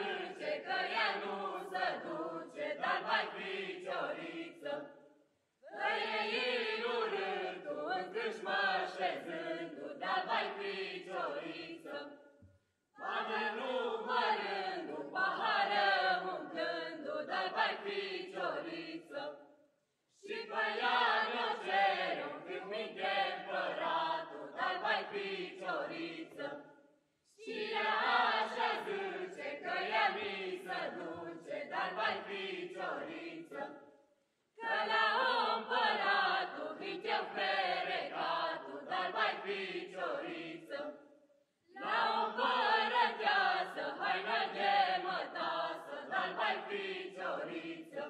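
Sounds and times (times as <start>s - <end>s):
mixed group singing a carol: 0.0s - 12.4s, 13.0s - 19.5s, 20.1s - 48.0s.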